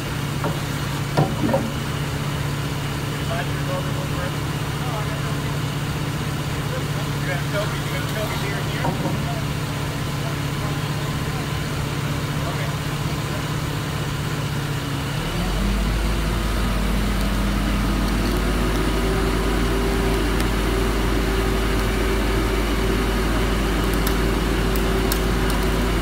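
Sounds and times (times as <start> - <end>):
forklift engine revving: 0.0 - 26.0.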